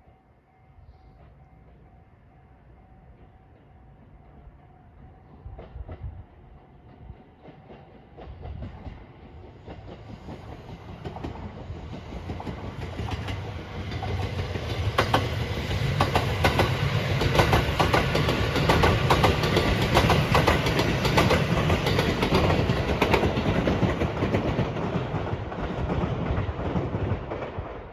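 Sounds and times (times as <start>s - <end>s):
passenger train passing: 0.0s - 27.9s
wheels clacking over rail joints: 5.5s - 27.9s.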